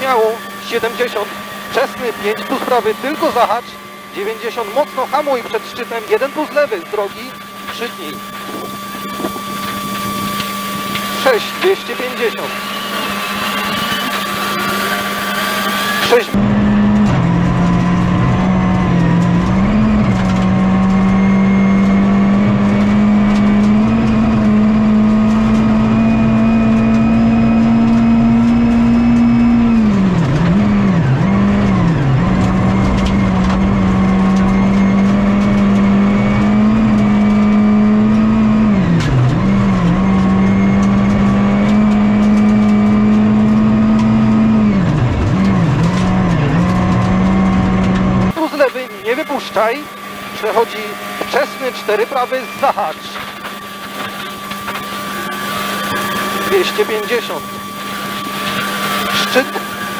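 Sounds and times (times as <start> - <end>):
rally car engine at high revs: 0.0 - 59.9.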